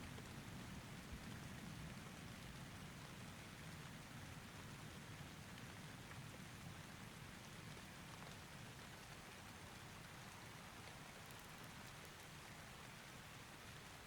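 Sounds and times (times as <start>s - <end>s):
faint steady rain: 0.0s - 14.0s.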